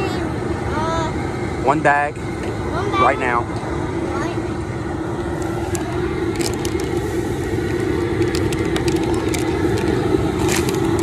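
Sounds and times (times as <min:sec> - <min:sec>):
jet burner roaring: 0:00.0 - 0:11.0
water at a rolling boil: 0:00.0 - 0:11.0.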